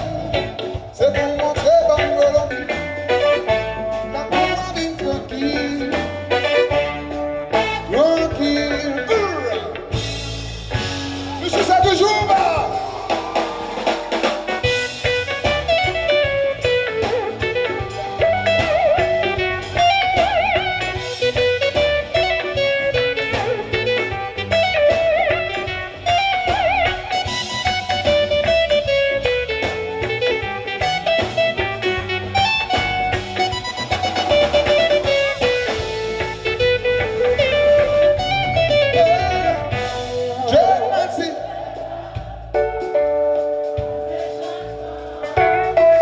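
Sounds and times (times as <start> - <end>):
bass guitar: 0.0 - 46.0
lead guitar melody: 0.0 - 46.0
steady drum beat: 0.0 - 46.0.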